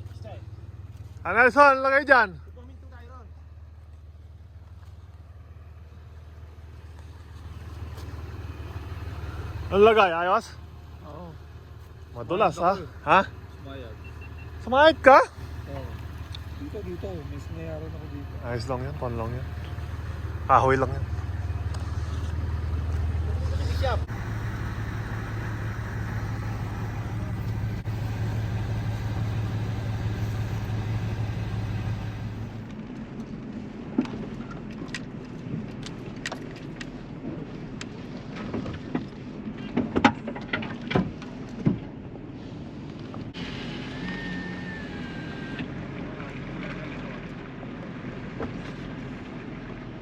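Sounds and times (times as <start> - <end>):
vehicle engine humming: 0.0 - 50.0.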